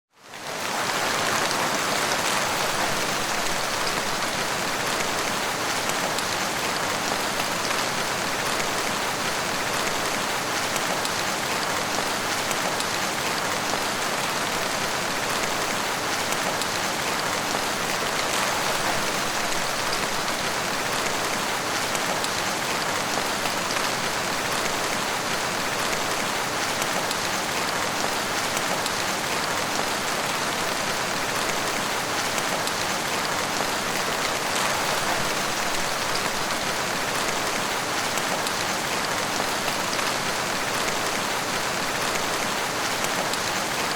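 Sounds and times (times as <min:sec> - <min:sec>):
heavy rain: 0:00.1 - 0:43.9.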